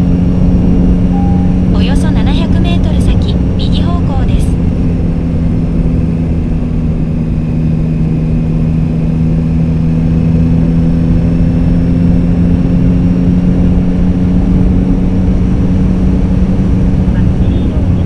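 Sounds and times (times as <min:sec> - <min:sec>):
motorcycle engine cruising: 0:00.0 - 0:18.0
wind rumble on microphone: 0:00.0 - 0:18.0.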